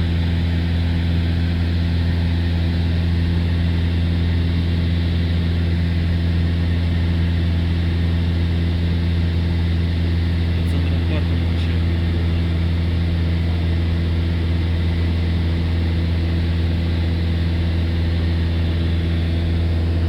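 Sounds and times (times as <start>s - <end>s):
propeller airplane engine drone: 0.0s - 20.0s.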